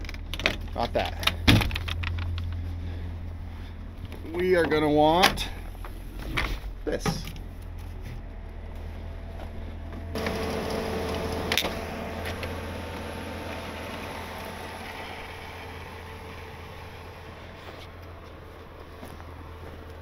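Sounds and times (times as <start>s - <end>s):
pickup truck engine idling: 0.0s - 20.0s
steady whine: 0.0s - 20.0s.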